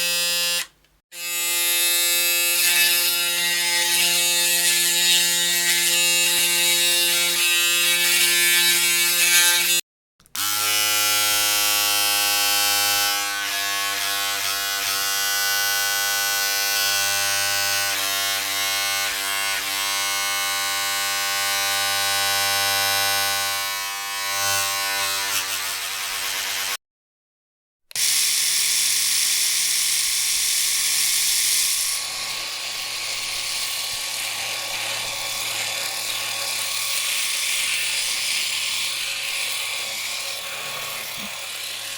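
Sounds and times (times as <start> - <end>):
electric shaver buzzing: 0.0 - 9.8, 10.4 - 26.8, 27.9 - 41.9.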